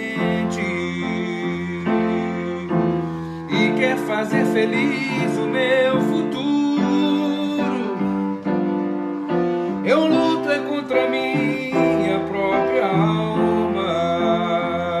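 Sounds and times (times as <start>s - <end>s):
electronic keyboard chords: 0.0s - 15.0s.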